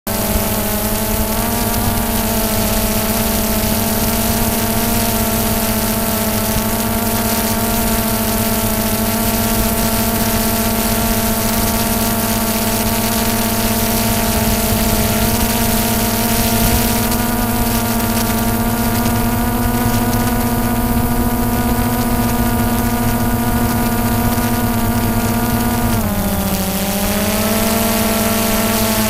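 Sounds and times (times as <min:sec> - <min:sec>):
drone propellers humming: 0:00.1 - 0:29.0.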